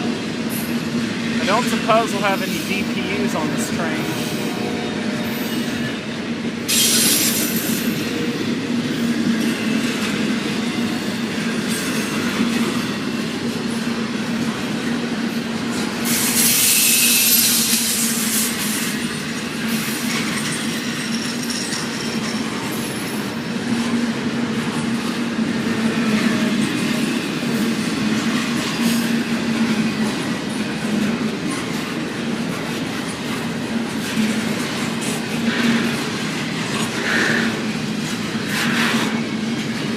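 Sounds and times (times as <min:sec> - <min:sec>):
train wheels rumbling and clattering: 0:04.1 - 0:39.9.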